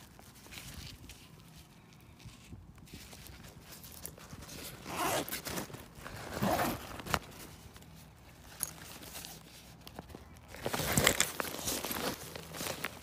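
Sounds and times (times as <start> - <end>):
backpack fabric rustling: 0.0 - 13.0.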